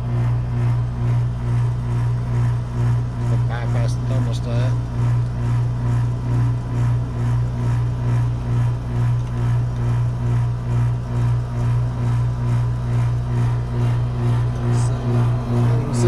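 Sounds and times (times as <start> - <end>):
hvac unit humming: 0.0 - 16.0.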